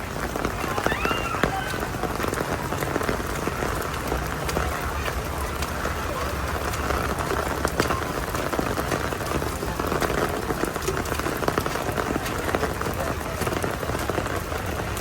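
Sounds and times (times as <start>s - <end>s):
heavy rain hissing: 0.0s - 15.0s
raindrops pattering: 0.0s - 15.0s.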